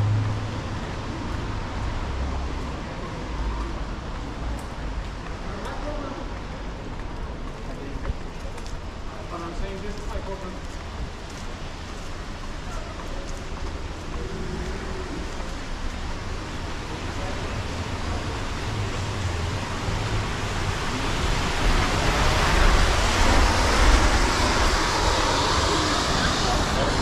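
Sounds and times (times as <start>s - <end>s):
street traffic hiss: 0.0s - 27.0s.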